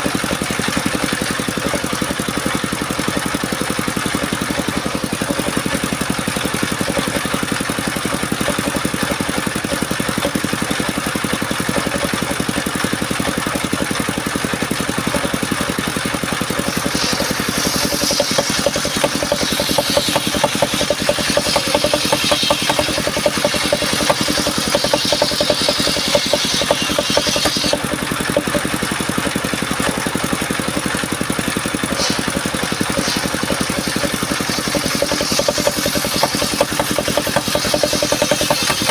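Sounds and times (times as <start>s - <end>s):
saw blade cutting timber: 0.0s - 38.9s
sawmill engine running: 0.0s - 38.9s.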